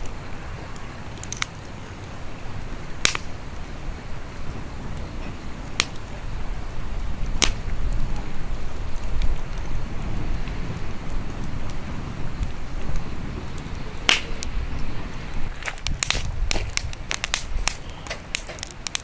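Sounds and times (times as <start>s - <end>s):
sharp fire pops: 0.0s - 3.7s, 4.4s - 6.4s, 7.0s - 19.0s
campfire crackling: 0.0s - 19.0s.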